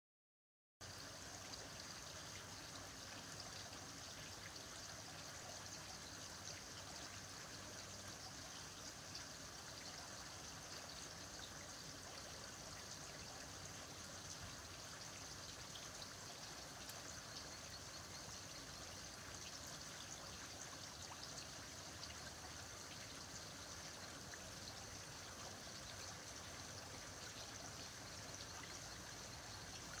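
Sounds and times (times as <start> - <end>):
faint aquarium water trickling: 0.8 - 30.0.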